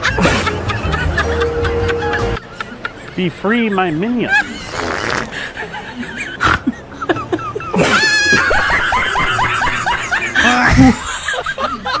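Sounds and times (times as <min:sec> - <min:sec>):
high-pitched laughter: 0:00.0 - 0:03.2, 0:03.8 - 0:12.0.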